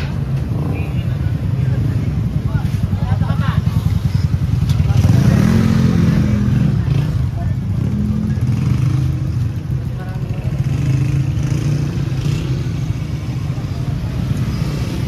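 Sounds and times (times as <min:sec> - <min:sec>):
people's voices: 0:00.0 - 0:15.0
vehicle engines rumbling: 0:00.0 - 0:15.0.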